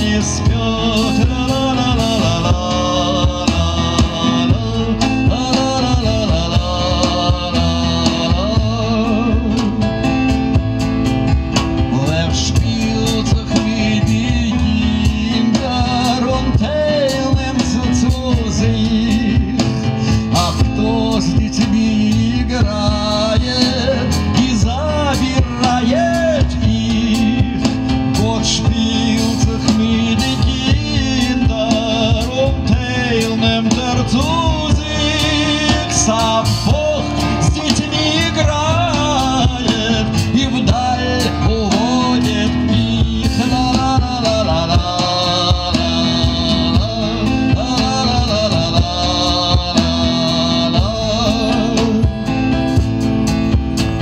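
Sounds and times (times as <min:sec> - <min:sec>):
cajon: 0:00.0 - 0:54.0
keyboard: 0:00.0 - 0:54.0
plucked double bass: 0:00.0 - 0:54.0.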